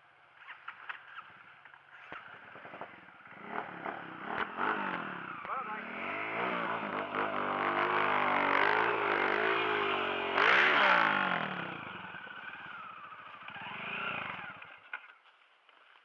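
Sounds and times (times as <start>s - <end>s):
dirt bike engine revving: 2.1s - 15.1s.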